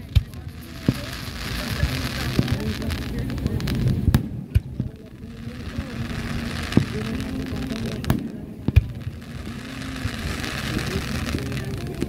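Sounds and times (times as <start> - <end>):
fireworks bursting with bangs: 0.0 - 12.0
people talking: 0.0 - 12.0.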